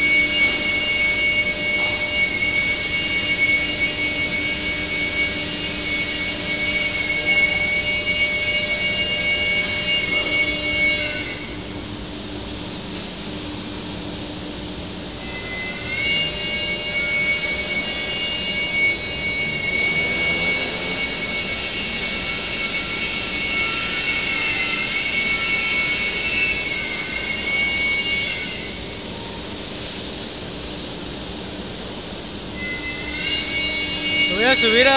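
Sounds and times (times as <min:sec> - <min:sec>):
cnc router whining: 0:00.0 - 0:34.9.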